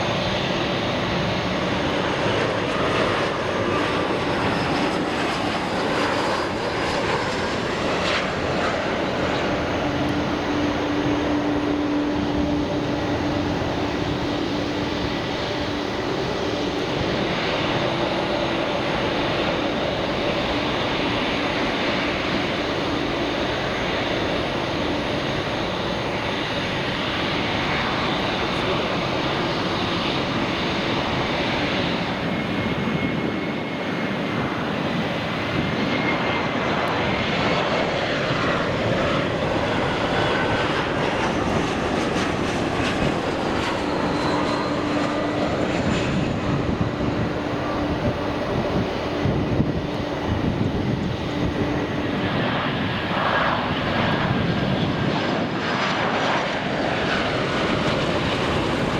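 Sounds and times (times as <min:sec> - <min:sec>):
jet airliner engines roaring: 0:00.0 - 0:58.9.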